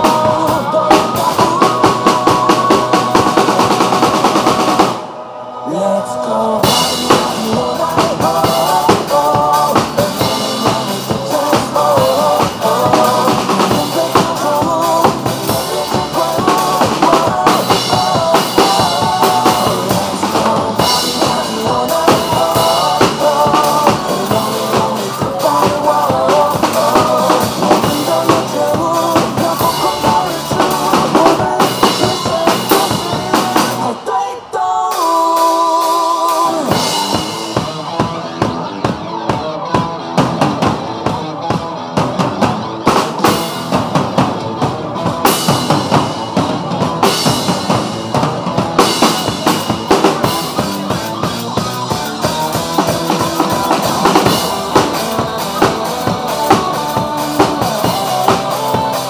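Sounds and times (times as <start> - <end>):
acoustic drum kit: 0.0 - 5.0, 6.6 - 34.1, 34.9 - 59.0
pop-rock backing track: 0.0 - 5.6, 6.5 - 59.0.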